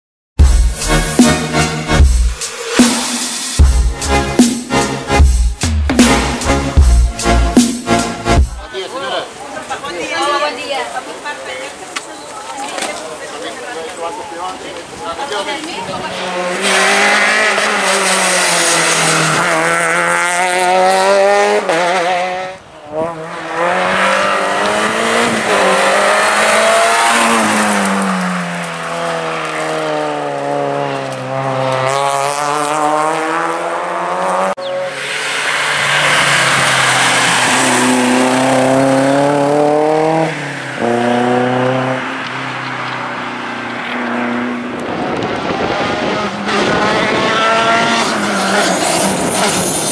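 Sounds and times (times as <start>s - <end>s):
rally car engines revving: 3.6s - 49.9s.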